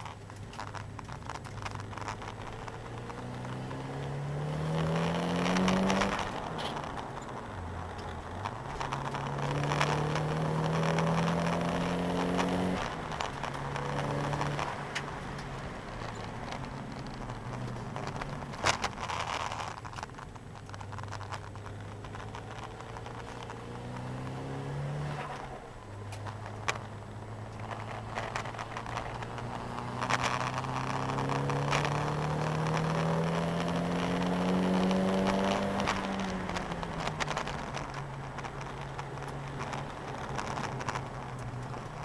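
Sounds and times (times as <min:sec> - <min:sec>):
road and tyre noise: 0:00.0 - 0:42.0
car engine revving: 0:00.8 - 0:20.0, 0:20.8 - 0:42.0.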